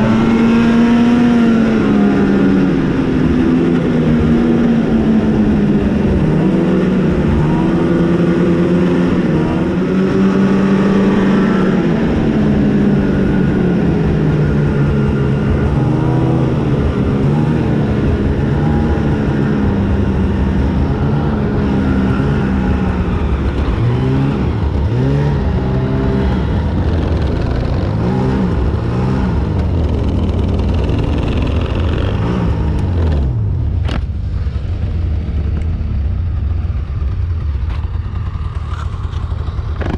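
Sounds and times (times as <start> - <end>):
snowmobile engine revving: 0.0 - 33.5
low rumble: 0.0 - 39.9.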